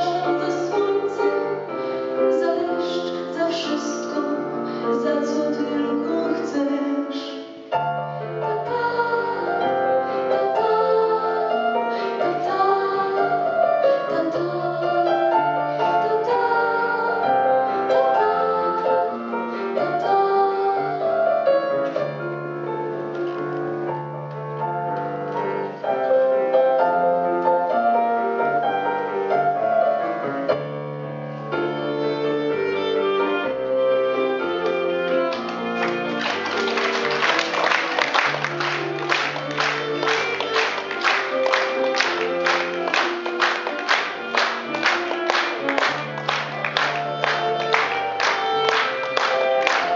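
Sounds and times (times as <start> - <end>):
piano playing: 0.0 - 49.9.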